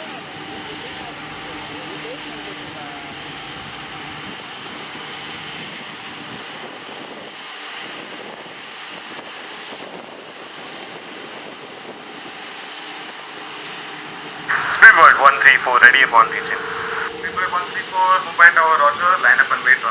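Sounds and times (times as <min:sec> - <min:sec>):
jet engines running: 0:00.0 - 0:19.9.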